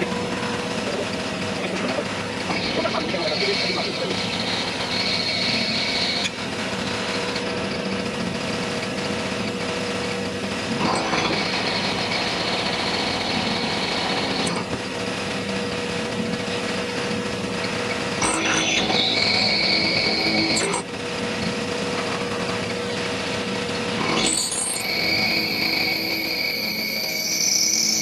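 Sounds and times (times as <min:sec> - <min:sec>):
high metal cutting noise: 0:00.0 - 0:28.0
milling machine hum: 0:00.0 - 0:28.0.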